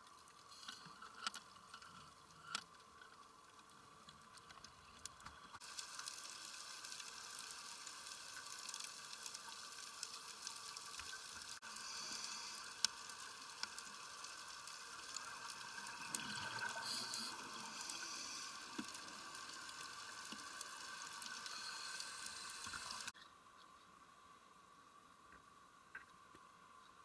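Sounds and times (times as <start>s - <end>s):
underwater hiss with crackling: 0.1s - 23.1s.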